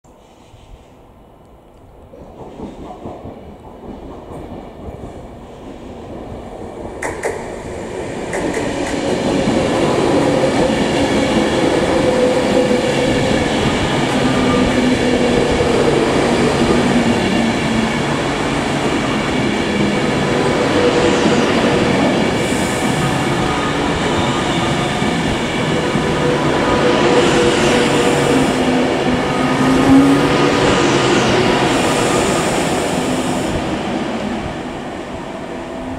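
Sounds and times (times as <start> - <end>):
rumbling wheel and rail noise: 0.2 - 35.9
freight train rolling past: 2.1 - 35.9
electric train whine: 6.6 - 35.9.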